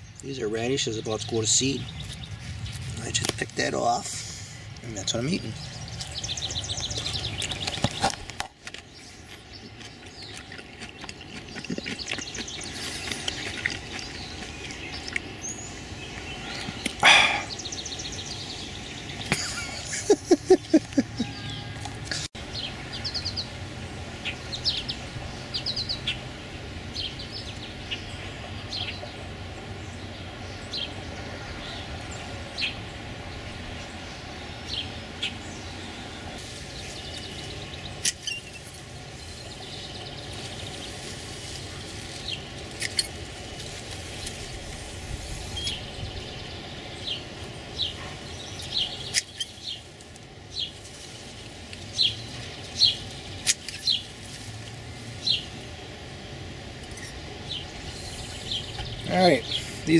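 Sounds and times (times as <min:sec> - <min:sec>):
low background hum: 0:00.0 - 0:59.9
small birds chirping: 0:00.0 - 0:59.9.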